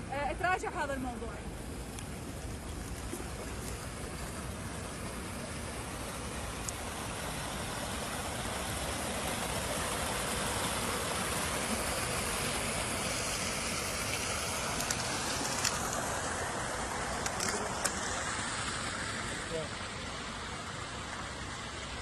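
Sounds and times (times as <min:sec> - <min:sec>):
water rushing out of pipe: 0:01.5 - 0:22.0.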